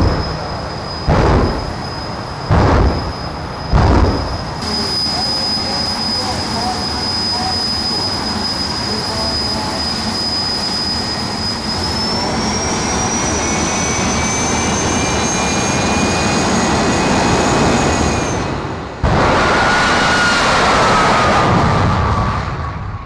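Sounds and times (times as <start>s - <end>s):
jet turbine engine whine and roar: 0.0s - 23.0s.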